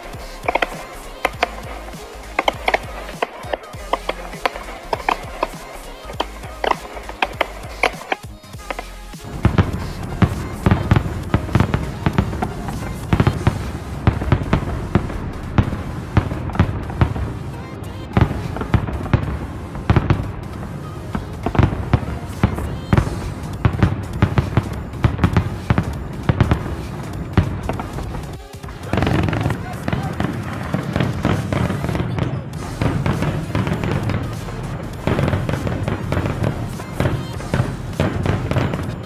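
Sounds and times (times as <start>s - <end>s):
fireworks bangs and crackling: 0.0s - 39.0s.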